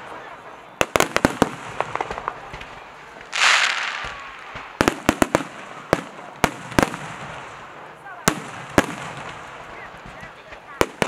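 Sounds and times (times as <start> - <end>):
fireworks bangs: 0.0 - 11.0
hissing crackle: 0.0 - 11.0.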